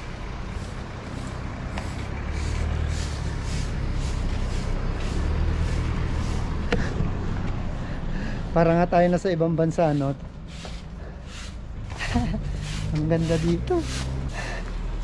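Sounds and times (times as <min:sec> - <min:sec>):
vehicle engine rumbling: 0:00.0 - 0:15.0
soft footsteps: 0:00.5 - 0:07.8, 0:10.0 - 0:15.0.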